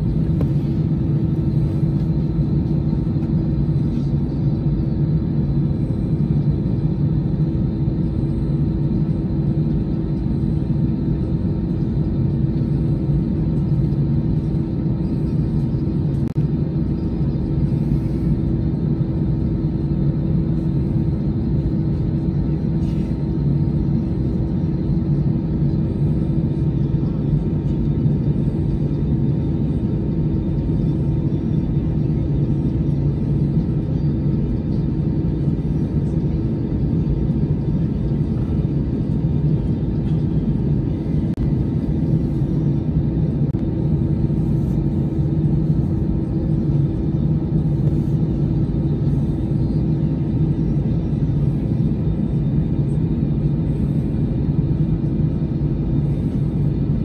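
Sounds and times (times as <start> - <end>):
airliner cabin rumble: 0.0 - 57.0
constant low hum: 0.0 - 57.0.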